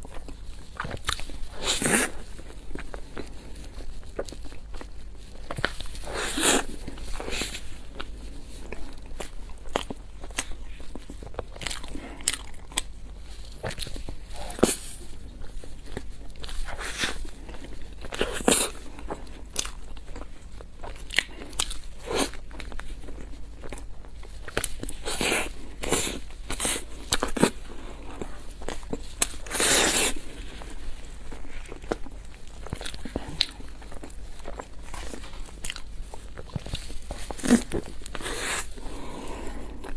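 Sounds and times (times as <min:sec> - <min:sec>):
close eating and chewing: 0:00.0 - 0:39.9.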